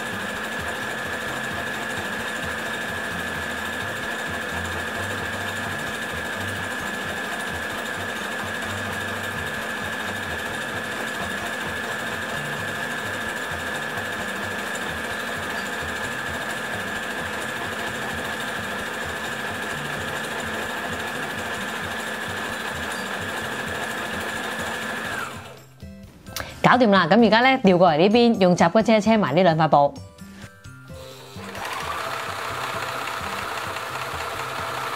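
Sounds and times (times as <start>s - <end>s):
sewing machine running: 0.0s - 25.7s, 31.0s - 34.9s.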